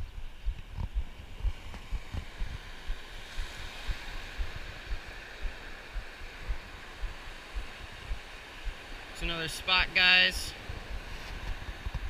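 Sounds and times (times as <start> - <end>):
ocean surf on beach: 0.0 - 12.0
wind buffeting microphone: 0.0 - 12.0.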